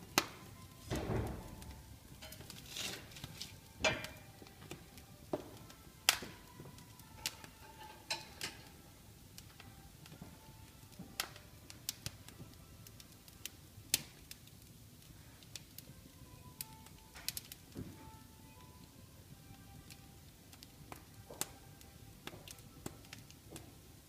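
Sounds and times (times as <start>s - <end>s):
low steady hiss: 0.0s - 24.0s
wood fire crackling and popping: 0.0s - 24.0s.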